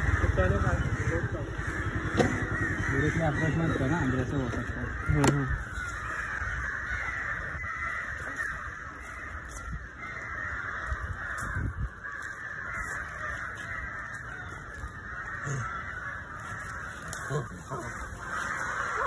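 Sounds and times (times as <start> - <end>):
birds cawing: 0.0 - 19.0.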